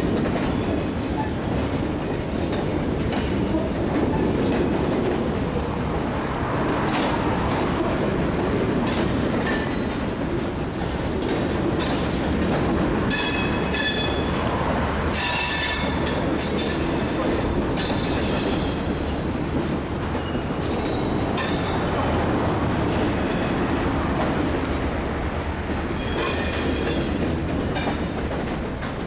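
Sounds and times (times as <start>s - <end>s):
wheels clacking over rail joints: 0.0s - 29.0s.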